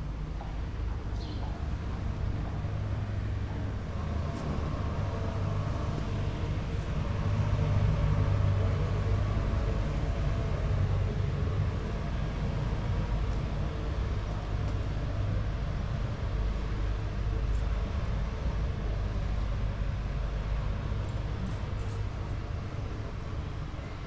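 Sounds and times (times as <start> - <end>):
town street ambience rumble: 0.0 - 24.0.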